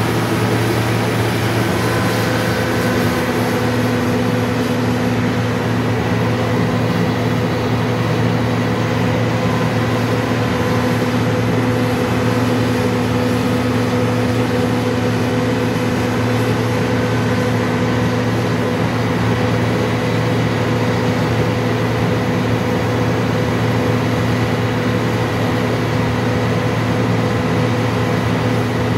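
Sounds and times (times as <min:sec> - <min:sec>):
combine diesel engine droning: 0:00.0 - 0:28.9.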